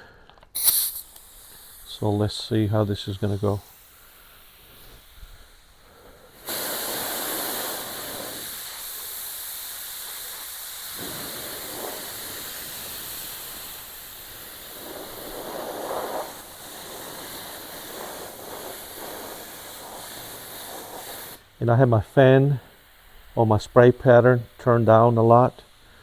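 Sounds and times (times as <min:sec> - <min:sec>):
paint spray gun hissing: 0:00.5 - 0:26.0.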